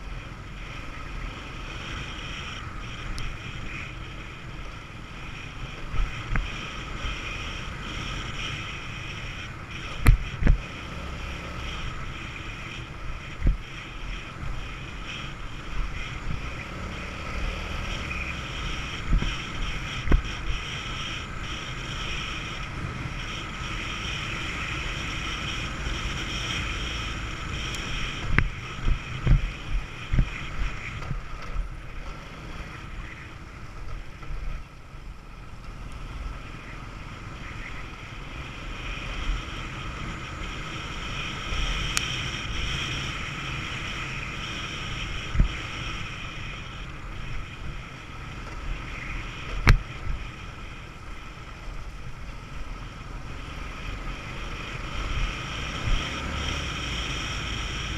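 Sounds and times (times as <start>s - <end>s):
moped engine running: 0.0s - 57.9s
rumble from dirt road: 0.0s - 57.9s.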